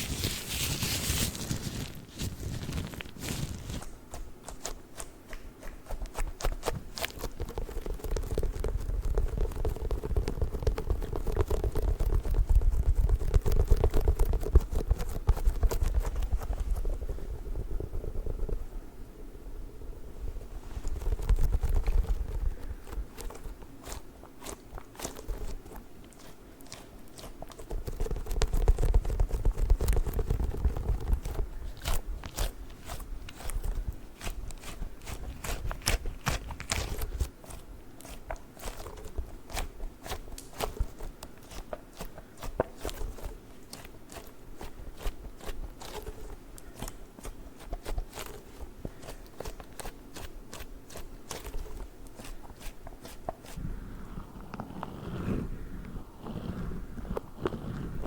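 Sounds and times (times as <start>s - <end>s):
stress toy squishing crunchily: 0.0s - 18.5s, 20.6s - 58.0s.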